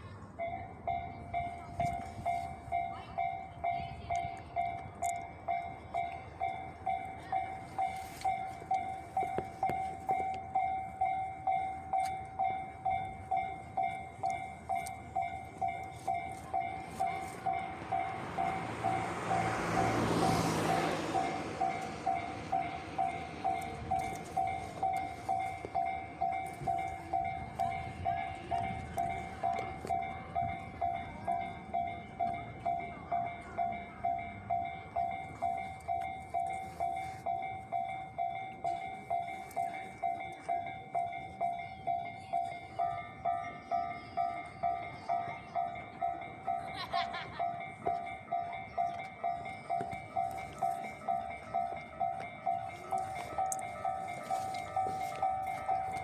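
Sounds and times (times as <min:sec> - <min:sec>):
train passing over crossing: 0:00.0 - 0:56.0
level-crossing electronic bell: 0:00.3 - 0:56.0.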